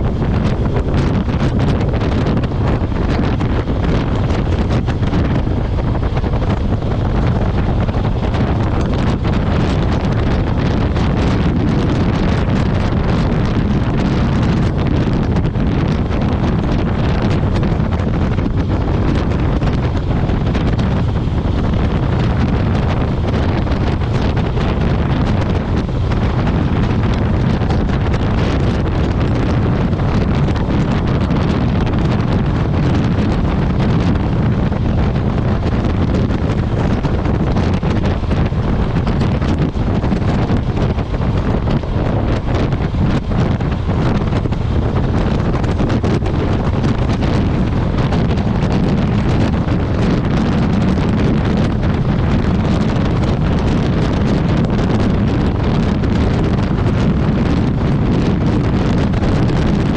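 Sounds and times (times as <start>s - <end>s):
motorcycle running: 0.0s - 59.9s
road noise: 0.0s - 59.9s
wind rushing over microphone: 0.0s - 59.9s.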